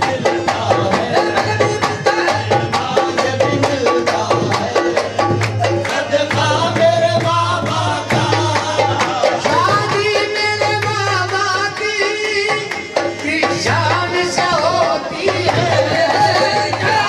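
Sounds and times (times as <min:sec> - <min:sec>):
tabla rhythm: 0:00.0 - 0:17.0.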